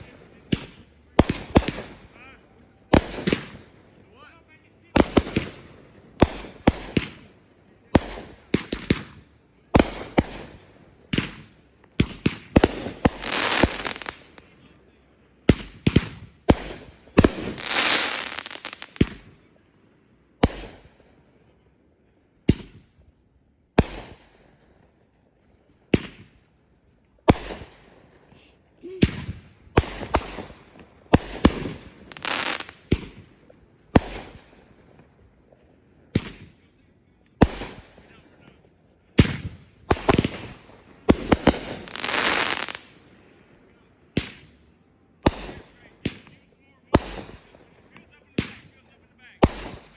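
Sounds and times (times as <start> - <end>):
fireworks bangs: 0.0 - 14.5, 15.4 - 19.5, 20.4 - 21.2, 23.7 - 24.9, 25.9 - 26.4, 27.2 - 28.2, 28.9 - 36.7, 37.4 - 43.1, 44.1 - 49.9
fireworks crackling: 0.0 - 14.6, 15.4 - 19.5, 20.3 - 21.3, 23.7 - 43.2, 44.1 - 49.9.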